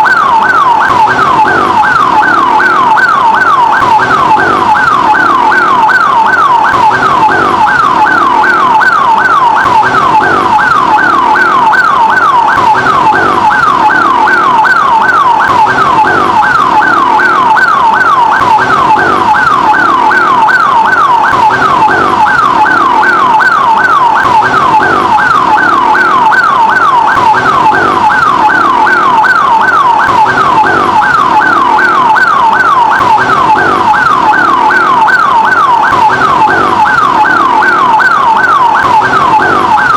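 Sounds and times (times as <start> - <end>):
ambulance siren yelping: 0.0 - 39.9.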